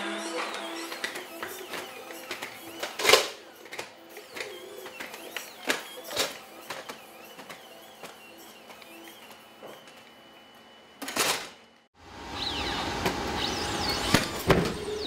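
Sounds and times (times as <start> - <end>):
mechanical whine: 0.0 - 15.0.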